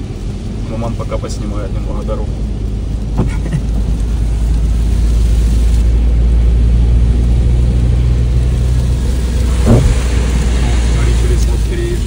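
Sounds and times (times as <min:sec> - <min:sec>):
engine and tyre rumble in car: 0:00.0 - 0:12.0.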